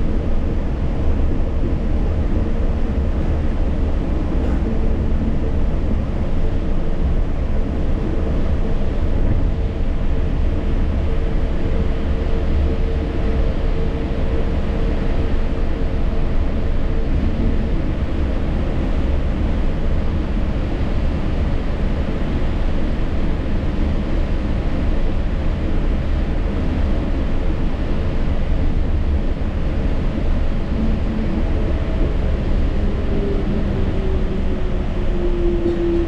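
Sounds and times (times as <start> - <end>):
faint train whine: 0.0 - 36.0
train rumble and hiss: 0.0 - 36.0.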